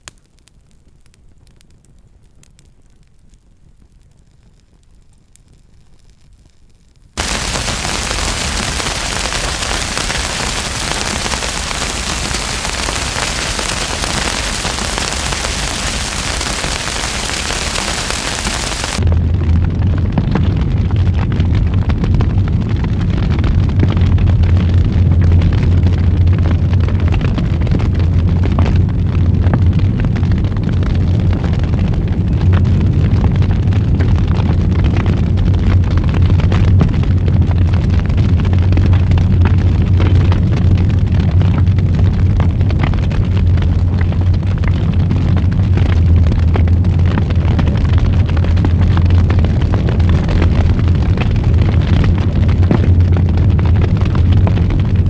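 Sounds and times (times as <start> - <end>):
wood fire burning: 0.0 - 55.0.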